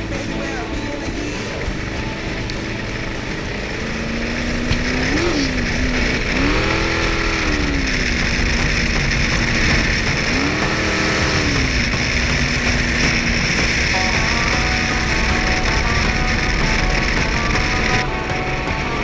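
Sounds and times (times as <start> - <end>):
boat engine revving: 0.0 - 19.0.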